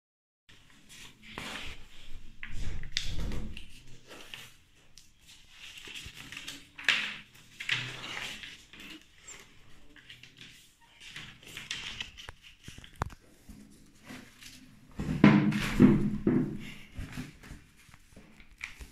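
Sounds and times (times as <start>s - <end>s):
paper rustling and creasing: 0.6s - 18.9s.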